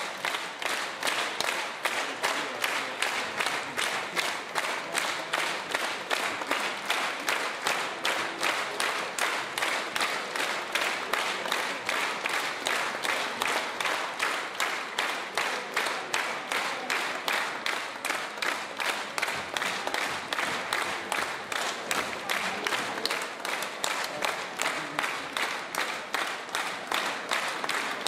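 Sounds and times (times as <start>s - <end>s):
audience clapping in unison: 0.0s - 28.0s
scattered applause: 0.0s - 28.0s.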